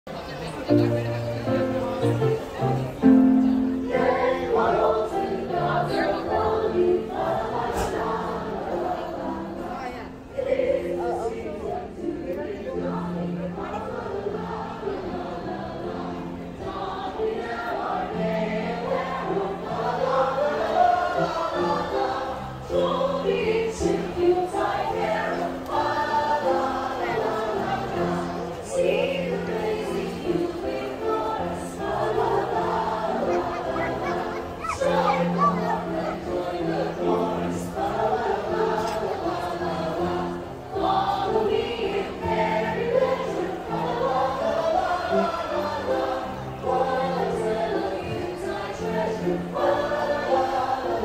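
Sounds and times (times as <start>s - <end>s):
group singing a carol: 0.5s - 51.0s.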